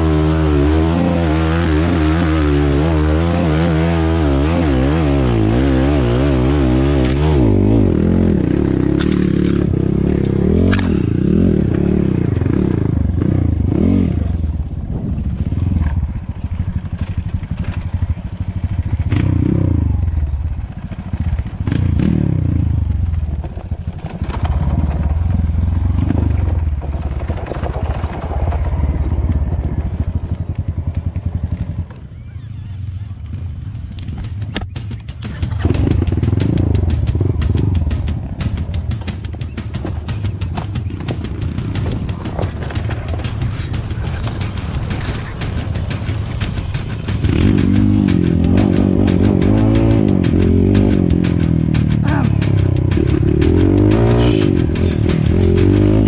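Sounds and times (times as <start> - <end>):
dirt bike engine revving: 0.0 - 27.5, 28.3 - 56.0.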